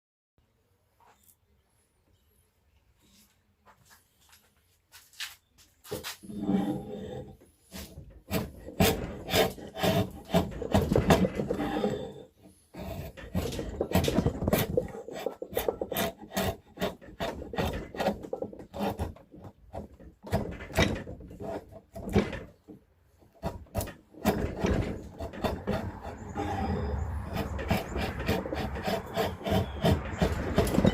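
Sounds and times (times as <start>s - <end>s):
hand tool scraping wood: 5.0s - 30.9s.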